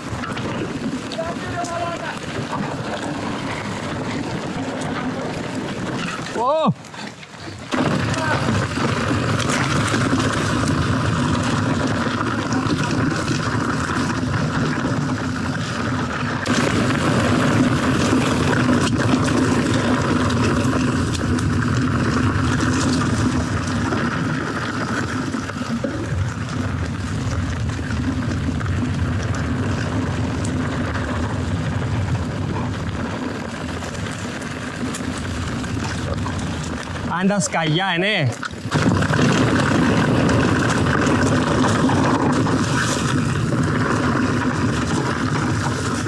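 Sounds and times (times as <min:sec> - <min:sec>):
bike clicks and rattles: 0:00.0 - 0:46.0
tyres rumbling on dirt: 0:00.0 - 0:46.0
wind rush on microphone: 0:00.0 - 0:46.0.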